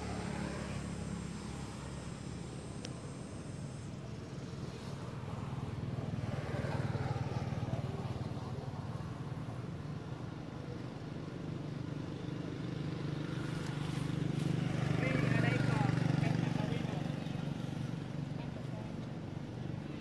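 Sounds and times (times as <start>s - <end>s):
motor engine running: 0.0s - 20.0s.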